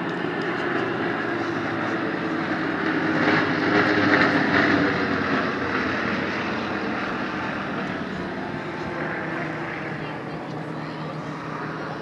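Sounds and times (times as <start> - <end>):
jet aircraft passing overhead: 0.0 - 12.0.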